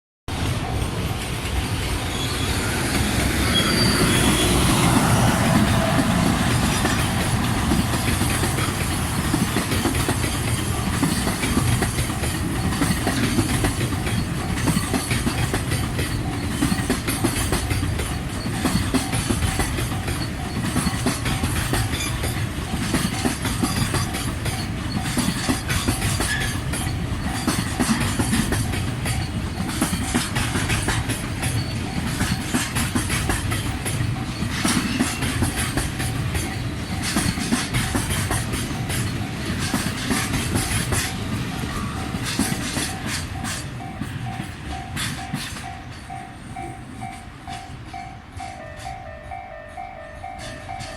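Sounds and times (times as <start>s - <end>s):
wheels clacking over rail joints: 0.3s - 48.9s
crossing warning bell: 0.3s - 50.9s.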